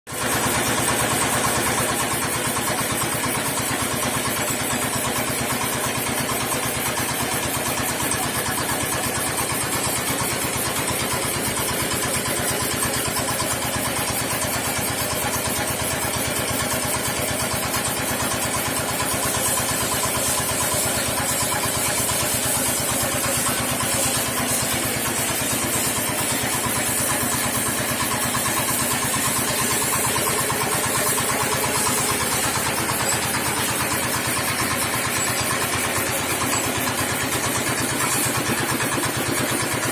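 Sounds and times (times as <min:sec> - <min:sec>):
small engine running: 0:00.1 - 0:39.9.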